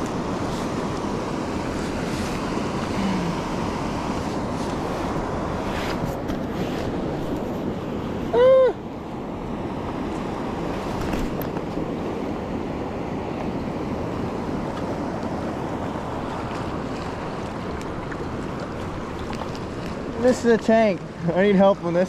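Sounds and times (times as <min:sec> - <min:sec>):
flowing stream: 0:00.0 - 0:22.0
wind: 0:00.0 - 0:22.0.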